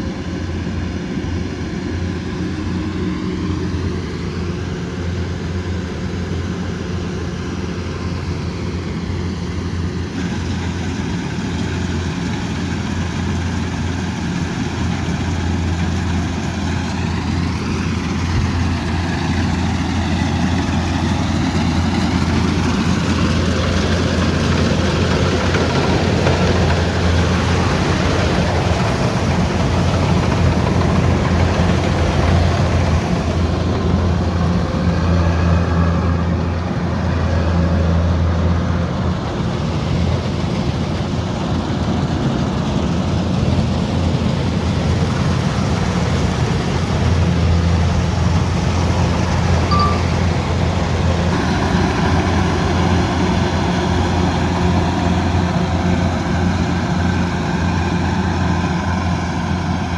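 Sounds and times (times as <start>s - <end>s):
combine harvester engine: 0.0s - 59.9s
harvesting machinery whir and rattle: 0.0s - 59.9s.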